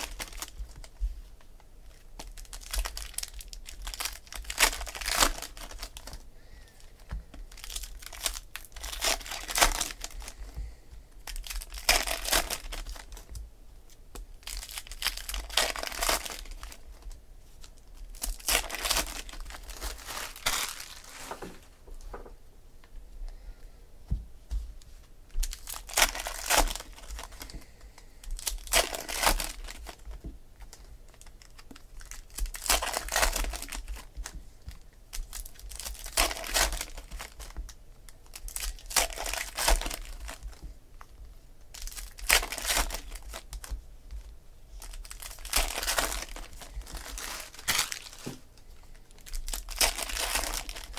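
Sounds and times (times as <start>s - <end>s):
plastic wrappers crinkling and tearing: 0.0s - 1.1s, 1.8s - 22.2s, 25.3s - 50.9s.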